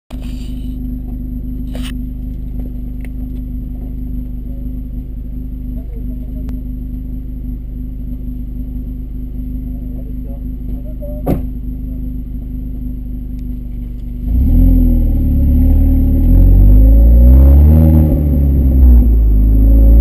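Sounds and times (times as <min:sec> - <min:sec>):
car engine idling: 0:00.1 - 0:20.0.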